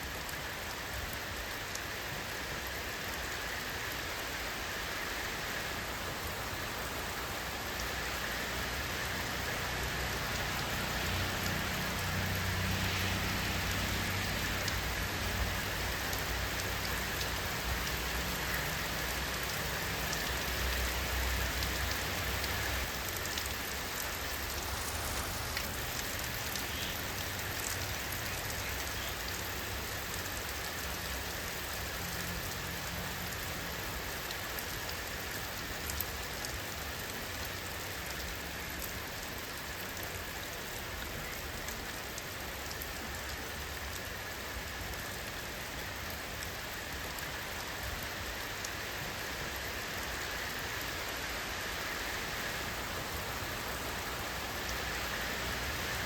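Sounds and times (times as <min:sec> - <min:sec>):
raindrops ticking on a surface: 0:00.0 - 0:56.0
steady rainfall: 0:00.0 - 0:56.0.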